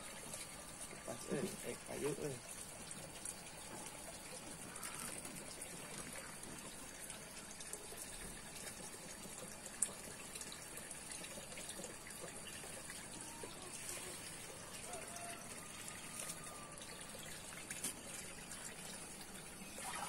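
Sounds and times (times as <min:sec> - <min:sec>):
water trickling through channel: 0:00.0 - 0:20.0.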